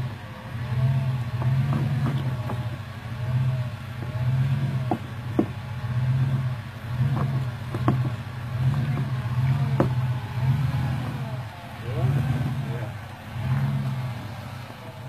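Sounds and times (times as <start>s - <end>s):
engine revving in surges: 0.0s - 15.0s.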